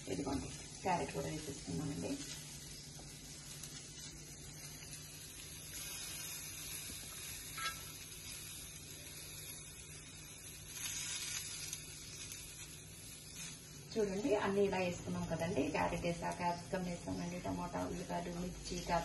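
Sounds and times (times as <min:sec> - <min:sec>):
batter hissing in a pan: 0:00.0 - 0:19.0.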